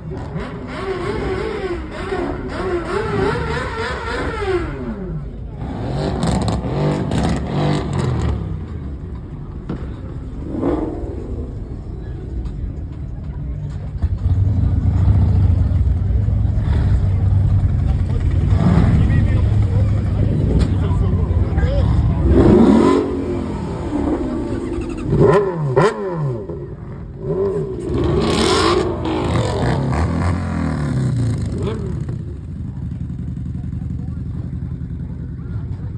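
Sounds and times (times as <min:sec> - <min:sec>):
car engine revving: 0:00.0 - 0:13.1, 0:14.0 - 0:33.3.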